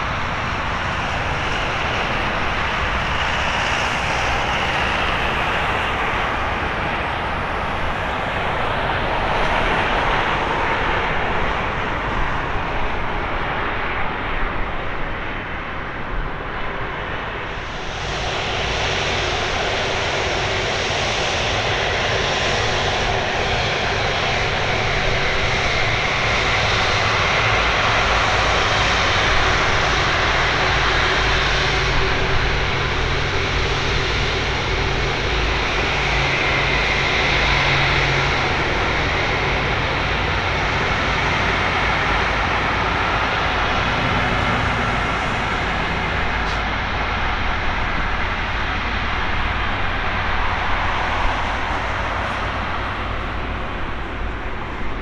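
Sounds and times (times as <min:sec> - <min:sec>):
jet engines of rolling airliner: 0:00.0 - 0:55.0.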